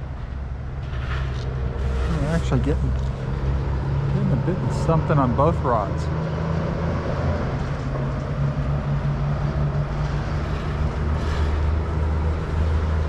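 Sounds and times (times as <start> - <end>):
engine hum of traffic: 0.0 - 13.0.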